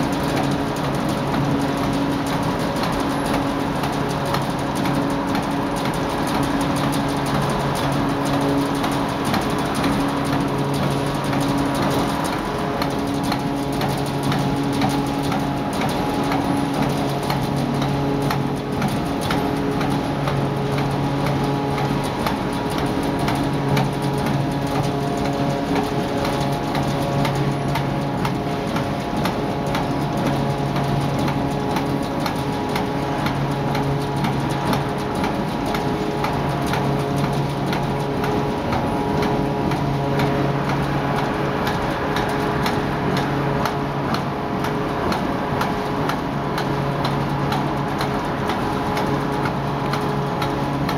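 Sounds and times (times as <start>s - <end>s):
forging machine hum: 0.0s - 50.9s
rapid clicking strikes: 0.0s - 50.9s.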